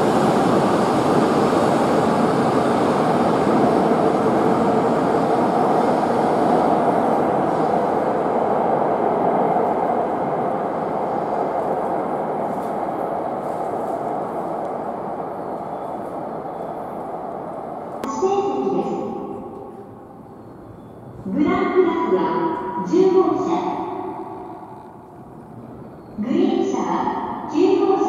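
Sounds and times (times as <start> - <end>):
train rushing rumble: 0.0 - 26.2.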